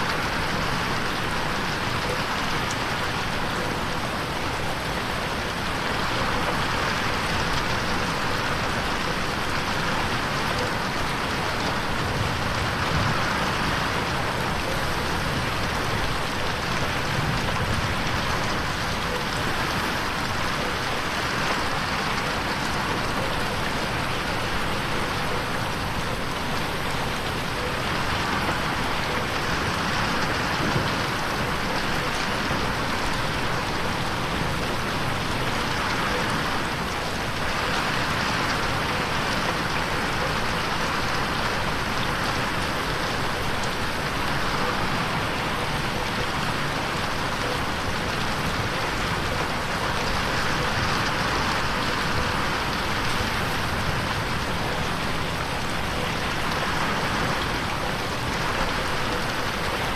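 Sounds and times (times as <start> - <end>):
rain pattering on window: 0.0 - 59.9.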